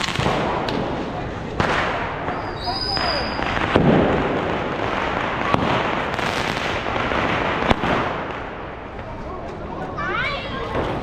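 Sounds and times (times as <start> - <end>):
sharp firecracker bangs: 0.0 - 8.9
firecrackers crackling: 0.0 - 11.0.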